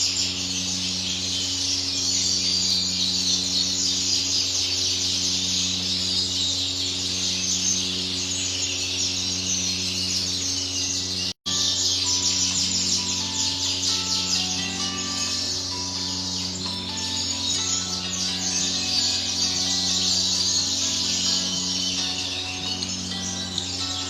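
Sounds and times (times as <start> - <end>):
canaries chirping: 0.0 - 24.0
low electrical hum: 0.0 - 24.0.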